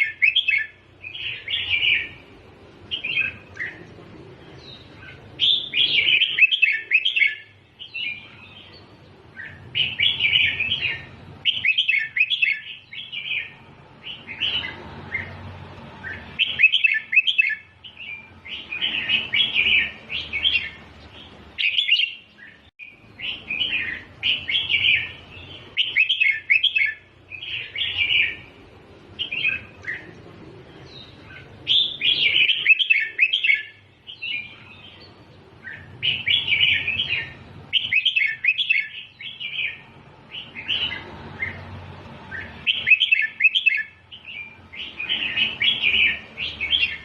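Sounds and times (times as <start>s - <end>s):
bulbul singing warbled phrases: 0.0s - 47.0s.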